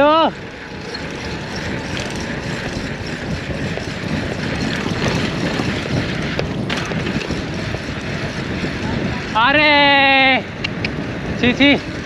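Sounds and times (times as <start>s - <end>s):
motorcycle engine: 0.0s - 12.0s
wind rushing over microphone: 0.0s - 12.0s.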